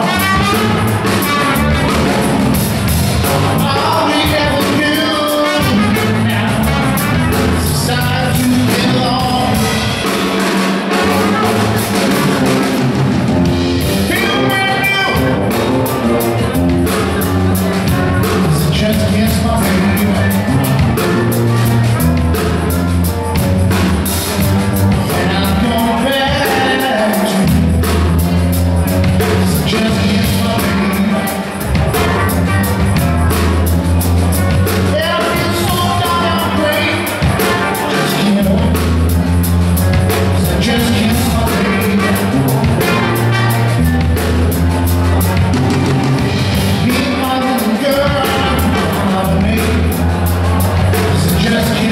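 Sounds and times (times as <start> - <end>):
drum kit cymbal beat: 0.0 - 51.9
electric bass: 0.0 - 51.9
guitar: 0.0 - 51.9
trumpet lead: 0.0 - 51.9.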